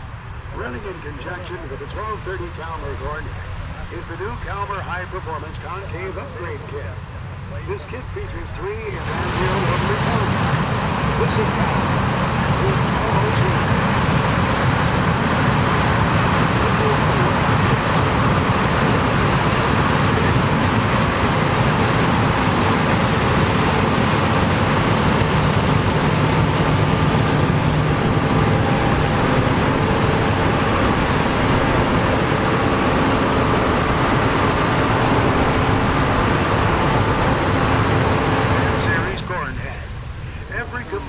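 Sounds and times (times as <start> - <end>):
combine harvester running: 0.0 - 41.0
faint steady tones: 0.0 - 41.0.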